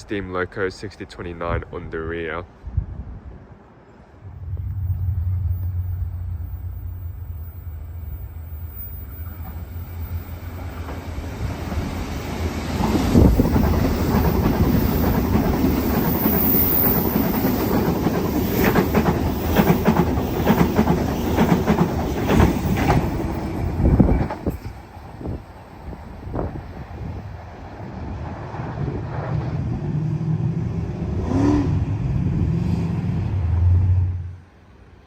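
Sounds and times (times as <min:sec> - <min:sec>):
train rumble: 0:03.6 - 0:35.0.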